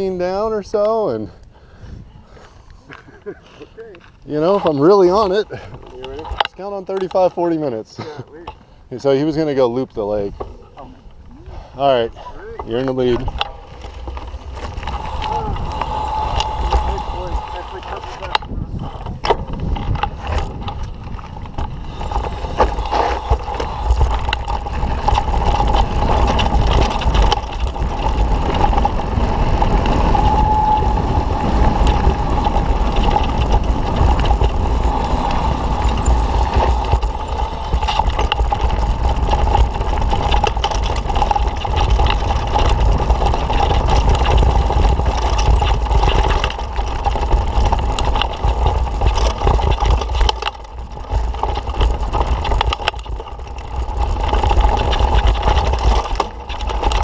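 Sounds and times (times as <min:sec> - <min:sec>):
wind buffeting microphone: 0:00.0 - 0:02.4, 0:08.8 - 0:57.0
tyre noise on dirt: 0:03.0 - 0:57.0
bike clattering over bumps: 0:04.0 - 0:57.0
steady whine: 0:09.8 - 0:57.0.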